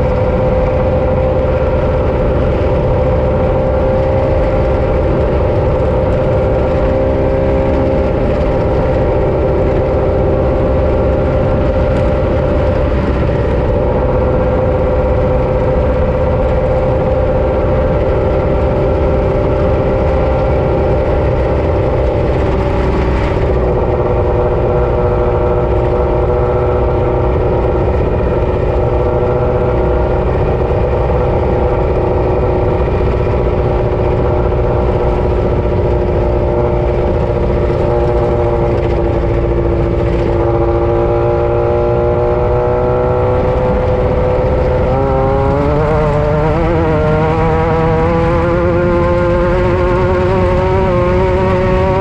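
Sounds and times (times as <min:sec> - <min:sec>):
heavy low rumble: 0:00.0 - 0:52.0
off-road vehicle engine running: 0:00.0 - 0:52.0.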